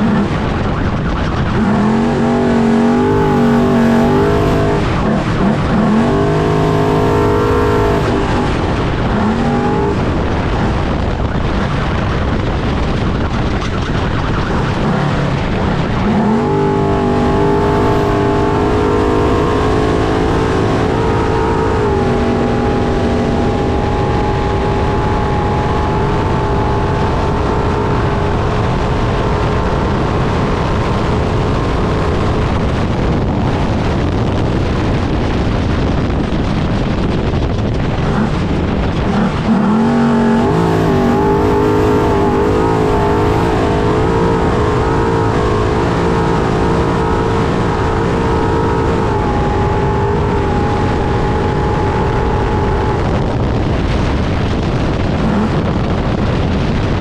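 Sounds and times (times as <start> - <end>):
constant heavy rumble: 0.0 - 57.0
racing truck engine running hard: 0.0 - 57.0.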